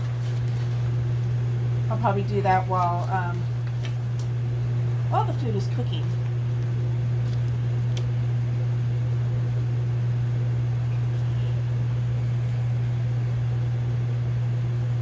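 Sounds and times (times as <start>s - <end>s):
cooker fan humming: 0.0s - 15.0s.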